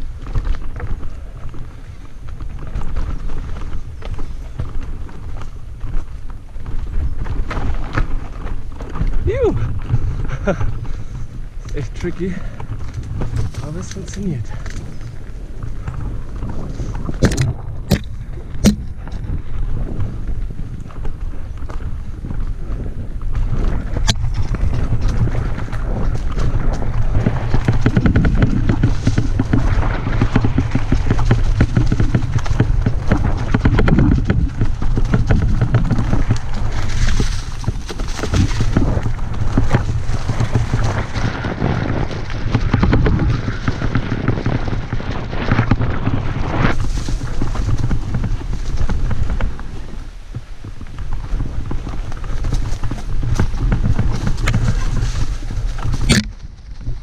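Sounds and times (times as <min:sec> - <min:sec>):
bike rattling: 0:00.0 - 0:57.0
tyres rolling over rocky ground: 0:00.0 - 0:57.0
wind buffeting microphone: 0:00.0 - 0:57.0.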